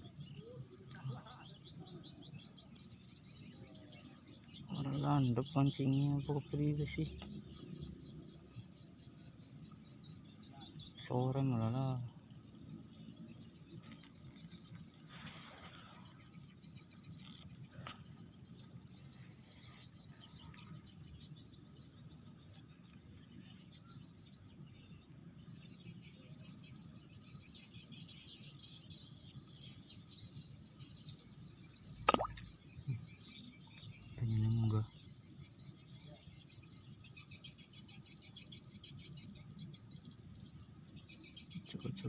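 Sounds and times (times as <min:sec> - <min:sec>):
field insects chirring: 0:00.0 - 0:42.0.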